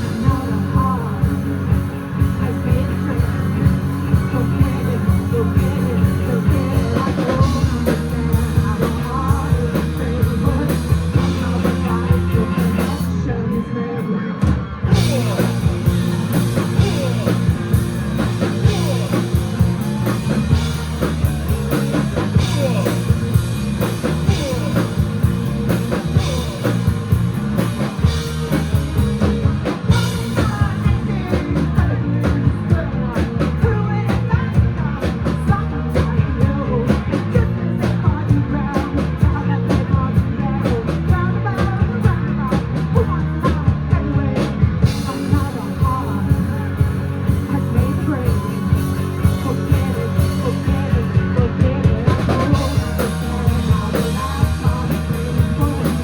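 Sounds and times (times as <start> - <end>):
drum kit: 0.0 - 13.2, 14.4 - 56.0
bass guitar: 0.0 - 56.0
electric guitars: 0.0 - 56.0
person singing: 0.0 - 56.0.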